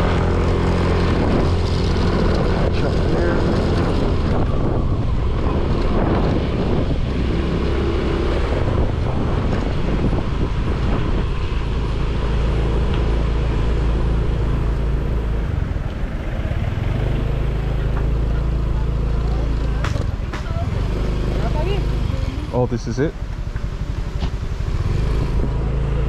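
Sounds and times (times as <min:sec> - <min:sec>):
wind rumbling on microphone: 0:00.0 - 0:22.4, 0:23.8 - 0:26.0
motor scooter engine running: 0:00.0 - 0:26.0.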